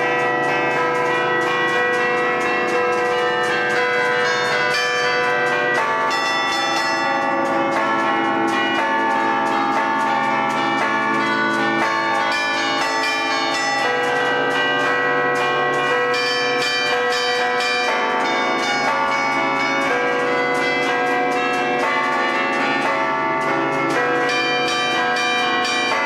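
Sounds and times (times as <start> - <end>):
tower bells ringing a tune: 0.0 - 26.0.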